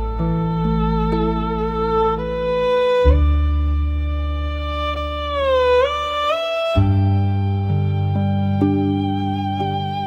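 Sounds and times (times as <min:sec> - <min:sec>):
plucked zither notes: 0:00.0 - 0:10.0.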